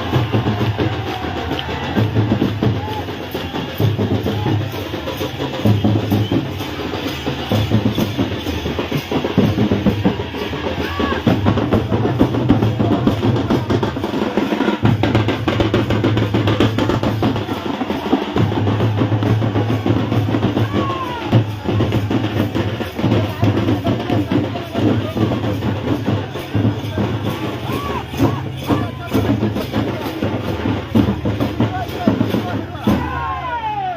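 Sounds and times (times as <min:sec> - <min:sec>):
heavy drumming: 0:00.0 - 0:33.9.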